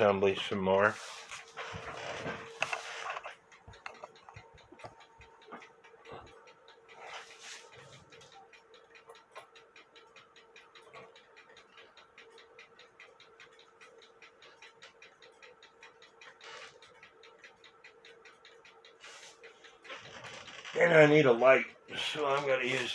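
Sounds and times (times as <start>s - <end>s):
clock ticking faintly: 0.0s - 22.9s.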